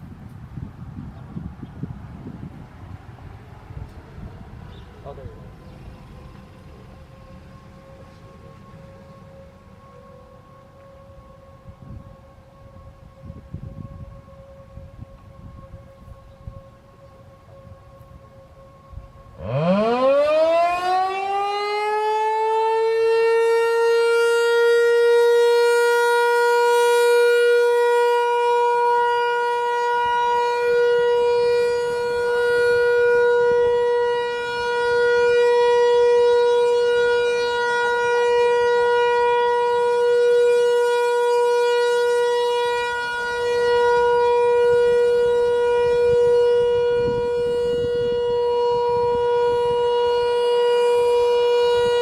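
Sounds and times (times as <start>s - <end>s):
outdoor warning siren steady tone: 0.0s - 52.0s.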